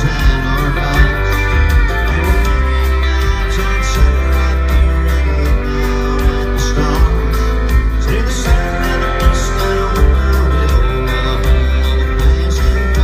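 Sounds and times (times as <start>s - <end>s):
live country band playing: 0.0s - 13.0s
steady drum beat: 0.0s - 13.0s.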